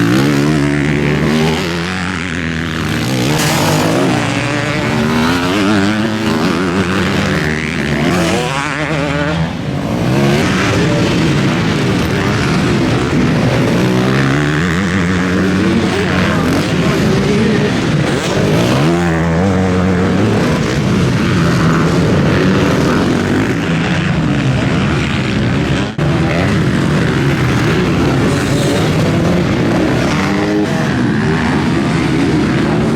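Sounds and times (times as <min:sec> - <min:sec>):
motocross bikes racing past: 0:00.0 - 0:32.9.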